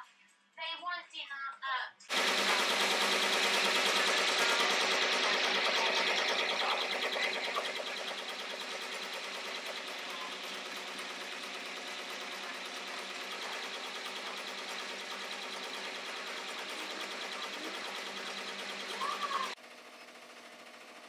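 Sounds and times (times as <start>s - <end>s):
embroidery machine needle chatter: 2.1s - 19.6s.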